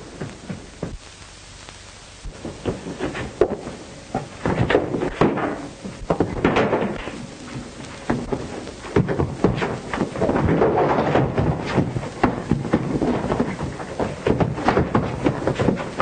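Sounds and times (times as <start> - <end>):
scuffling: 0.0 - 16.0.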